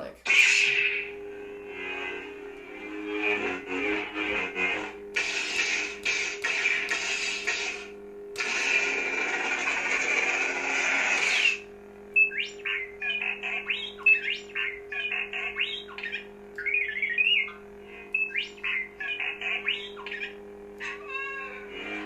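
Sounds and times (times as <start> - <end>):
low electric hum: 0.0 - 22.0.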